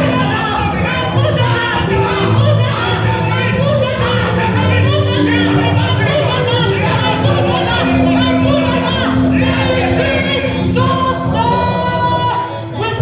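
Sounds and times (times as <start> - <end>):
congregation singing and calling out: 0.0 - 13.0
music with held low note: 0.0 - 13.0.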